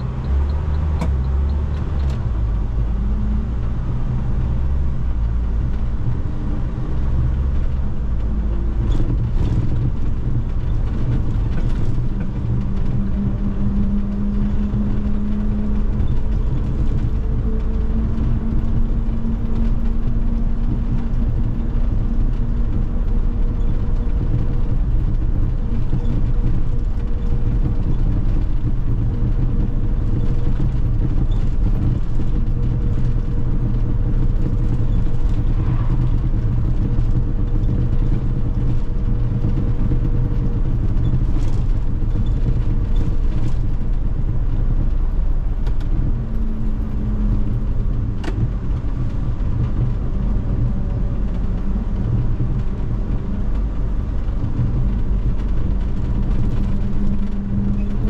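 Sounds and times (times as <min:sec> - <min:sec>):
bus engine low rumble: 0:00.0 - 0:58.0.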